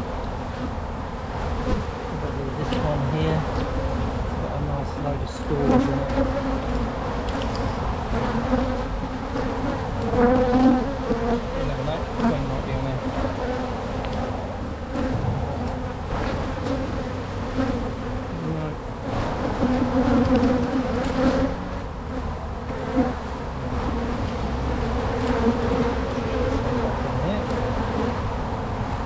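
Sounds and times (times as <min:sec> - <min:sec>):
honeybees buzzing: 0:00.0 - 0:29.0.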